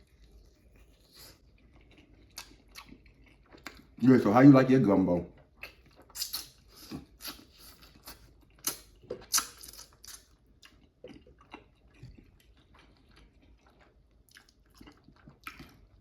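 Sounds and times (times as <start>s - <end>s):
person chewing food: 0.0s - 4.0s, 5.3s - 16.0s.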